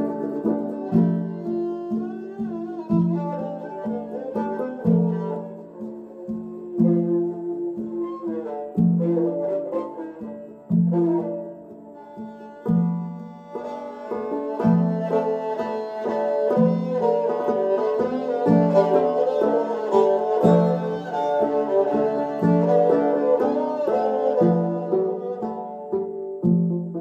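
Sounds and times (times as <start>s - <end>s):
bowed string instrument: 0.0s - 27.0s
plucked lute: 0.0s - 27.0s.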